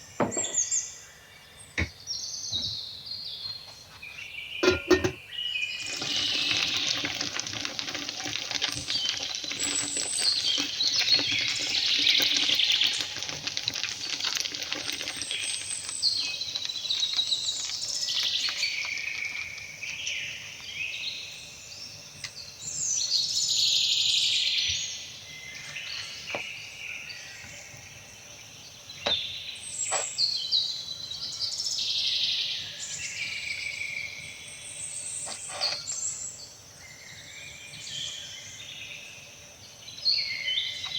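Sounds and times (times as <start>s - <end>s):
birds singing and chirping: 0.0s - 7.0s, 14.8s - 40.9s.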